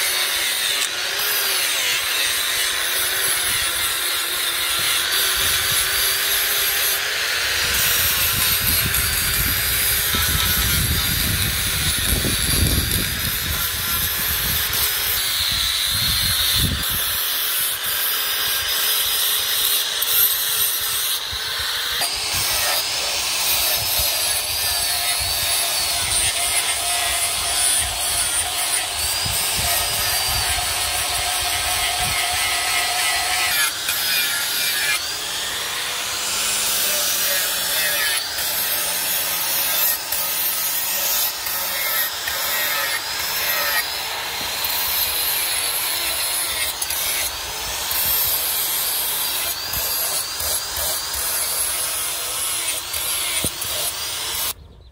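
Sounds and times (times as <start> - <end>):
angle grinder grinding steel: 0.0 - 54.6.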